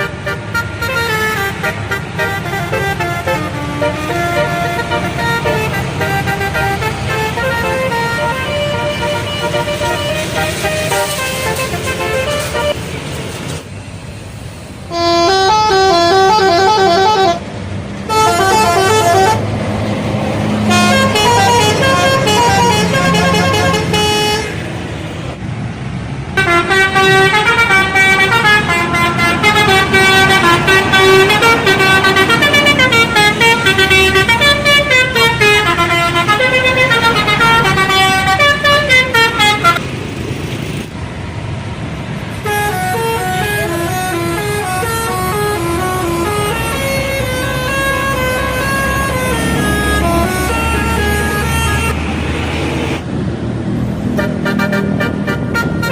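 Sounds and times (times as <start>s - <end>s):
bus air-horn melody: 0.0s - 13.0s, 14.9s - 19.6s, 20.5s - 24.6s, 26.4s - 39.8s, 42.4s - 52.1s, 54.1s - 55.9s
bus engine rumble: 0.0s - 55.9s.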